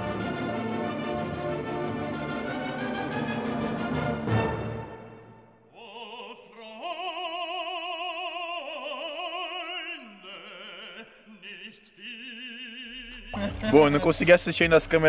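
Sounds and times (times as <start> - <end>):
operatic singing: 0.0 - 15.0.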